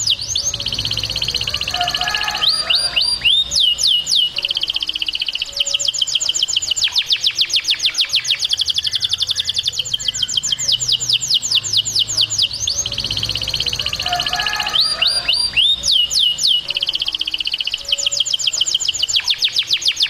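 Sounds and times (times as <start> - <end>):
canary singing: 0.0 - 20.0.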